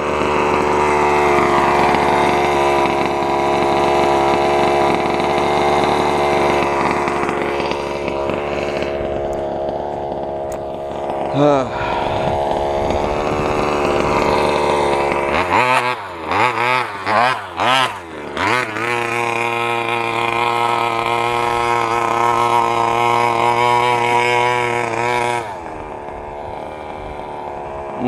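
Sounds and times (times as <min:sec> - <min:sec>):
small two-stroke engine revving: 0:00.0 - 0:28.0.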